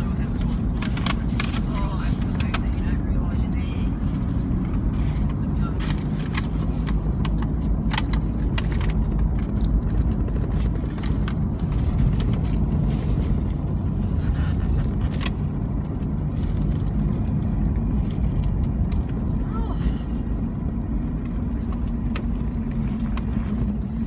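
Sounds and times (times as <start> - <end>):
car cabin rumble: 0.0 - 24.0.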